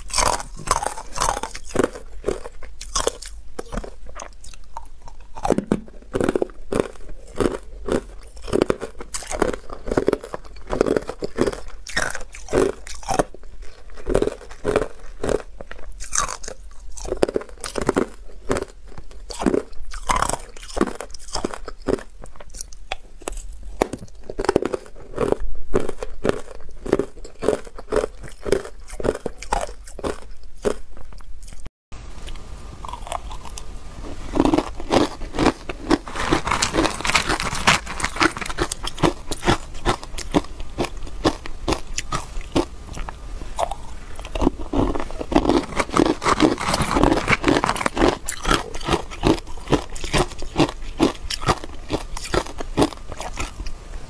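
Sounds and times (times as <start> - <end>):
ice crunching between teeth: 0.0 - 53.8.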